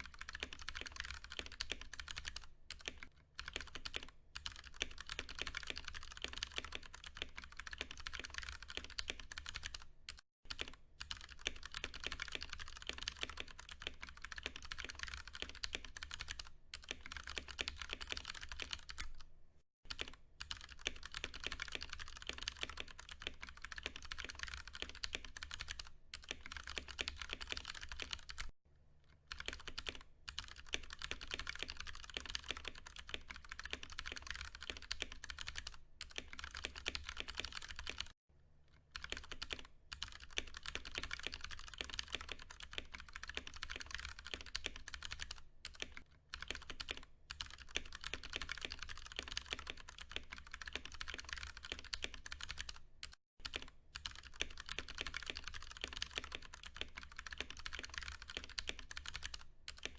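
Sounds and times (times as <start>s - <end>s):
mechanical keyboard typing: 0.0s - 19.3s, 19.9s - 28.5s, 29.2s - 38.2s, 38.9s - 59.9s.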